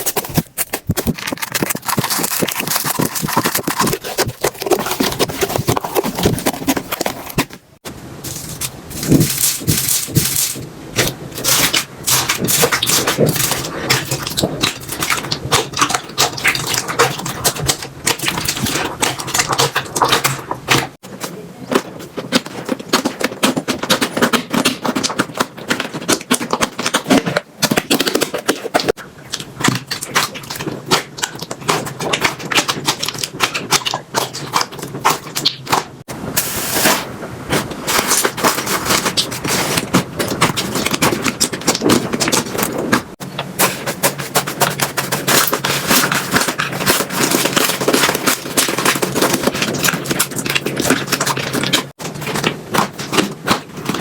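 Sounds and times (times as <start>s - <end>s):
slime clicking and crackling: 0.0s - 7.6s, 8.2s - 36.9s, 37.5s - 54.0s.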